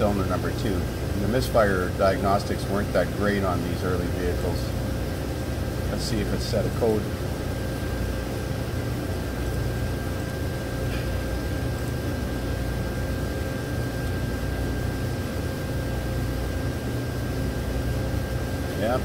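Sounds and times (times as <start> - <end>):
faint constant whine: 0.0 - 19.0.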